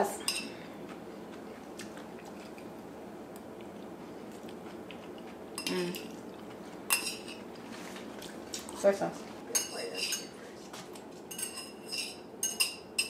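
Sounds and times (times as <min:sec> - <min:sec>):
room noise: 0:00.0 - 0:13.0.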